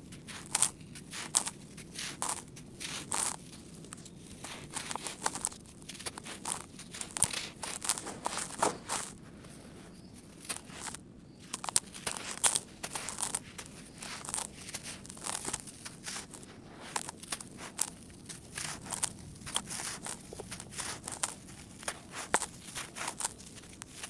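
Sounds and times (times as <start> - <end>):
hands crushing dry sand lumps: 0.0 - 24.0.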